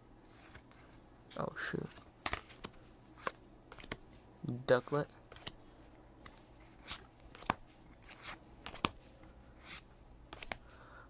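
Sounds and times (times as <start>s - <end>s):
cards rustling: 0.3s - 10.7s.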